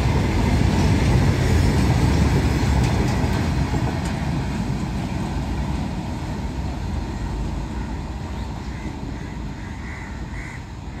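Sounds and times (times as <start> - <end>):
train wagons rumbling on track: 0.0 - 11.0.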